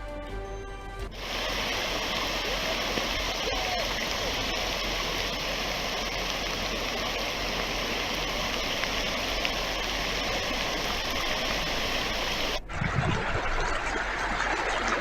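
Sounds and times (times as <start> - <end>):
flowing water rushing: 1.1 - 15.0.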